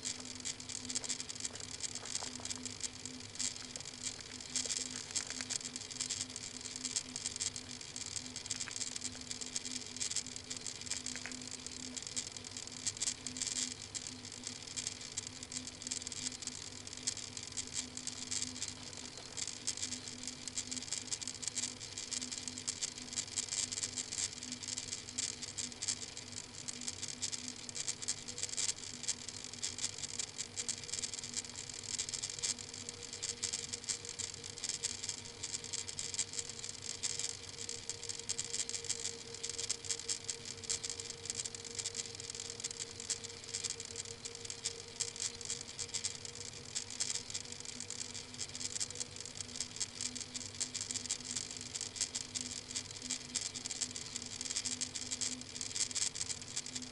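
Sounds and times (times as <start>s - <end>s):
microphone hiss: 0.0s - 56.9s
steady low hum: 0.0s - 56.9s.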